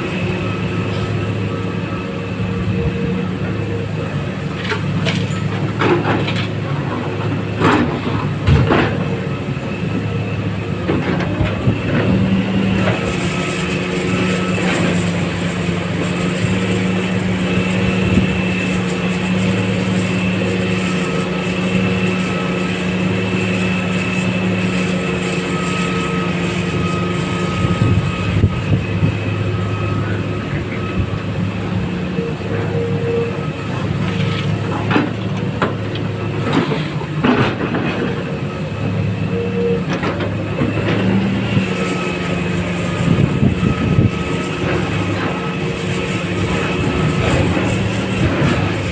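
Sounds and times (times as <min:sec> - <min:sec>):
excavator diesel engine running: 0:00.0 - 0:48.9
high whine: 0:00.0 - 0:48.9.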